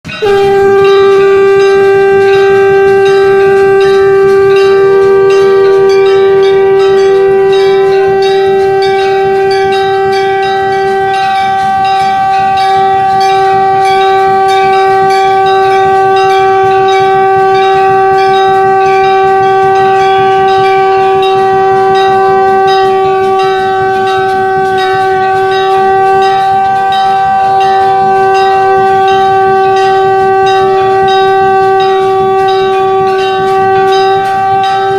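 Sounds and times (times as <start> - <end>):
conch shell blown: 0.0 - 34.9
temple bell ringing: 0.0 - 34.9.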